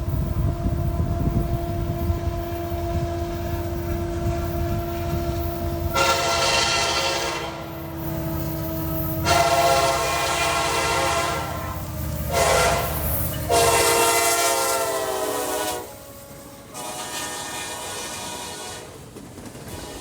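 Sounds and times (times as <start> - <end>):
moving train rumble: 0.0 - 20.0
locomotive horn blasts: 0.5 - 19.0.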